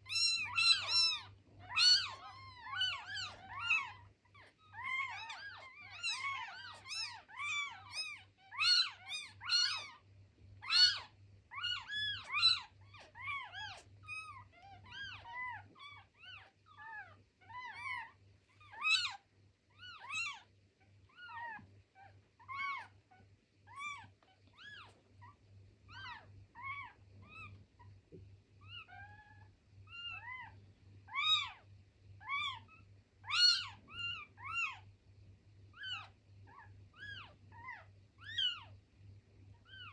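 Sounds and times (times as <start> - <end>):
kittens mewing: 0.0 - 10.0, 10.6 - 19.2, 19.8 - 28.0, 28.6 - 34.9.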